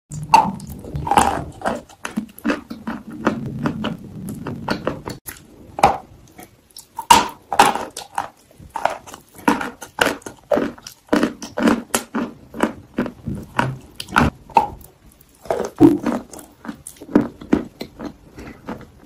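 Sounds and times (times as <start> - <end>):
biting and chewing: 0.1 - 19.0
wet mouth sounds: 0.1 - 19.0.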